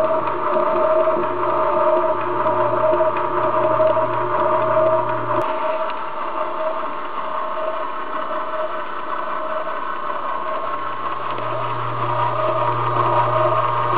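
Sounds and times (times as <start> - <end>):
low hum: 0.0 - 13.9
mixer motor whining: 0.0 - 13.9.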